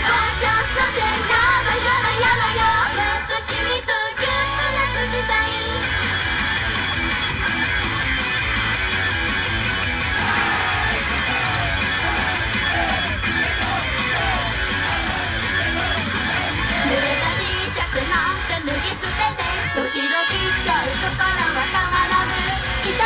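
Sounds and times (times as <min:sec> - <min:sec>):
distorted electric guitar: 0:00.0 - 0:23.0
heavy rock music: 0:00.0 - 0:23.0.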